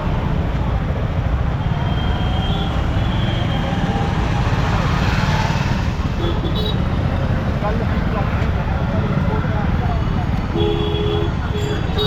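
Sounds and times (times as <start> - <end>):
motorcycle road and wind rumble: 0.0 - 12.0.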